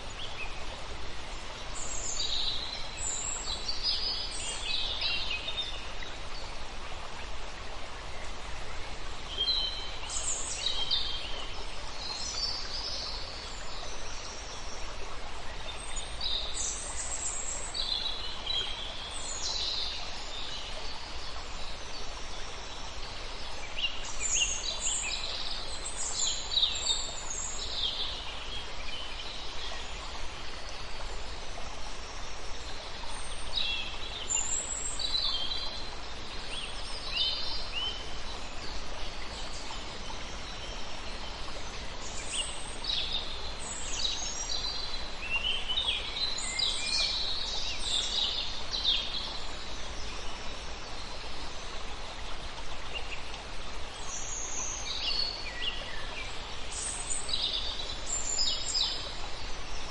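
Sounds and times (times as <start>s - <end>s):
songbirds chirping: 0.0s - 59.9s
steady background hiss: 0.0s - 59.9s.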